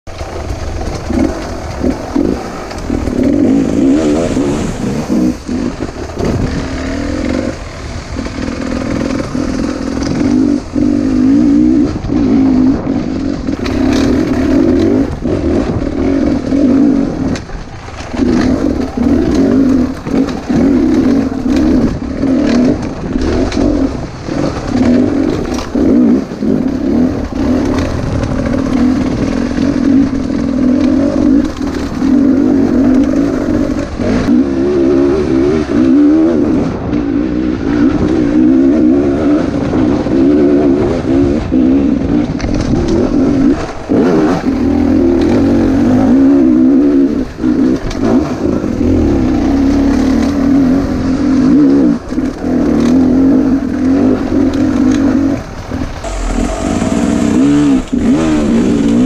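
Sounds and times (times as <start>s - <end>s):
motorcycle engine revving: 0.0s - 59.0s
bike knocking and rattling on stones: 0.1s - 36.2s, 36.8s - 59.0s.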